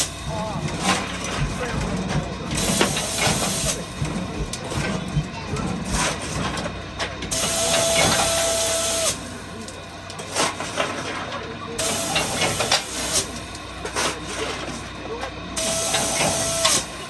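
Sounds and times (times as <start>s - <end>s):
steam locomotive venting steam: 0.0s - 10.8s, 11.8s - 17.0s.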